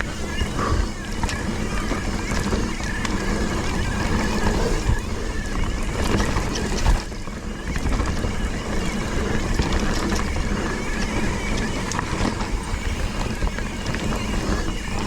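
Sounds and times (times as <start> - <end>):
bike rumble and rattle: 0.0 - 15.0.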